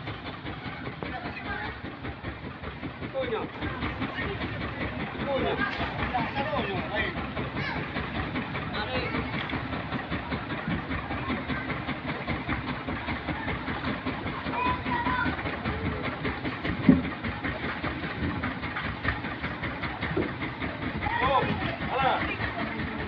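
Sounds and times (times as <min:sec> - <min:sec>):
machinery rapid clatter: 0:00.0 - 0:23.0.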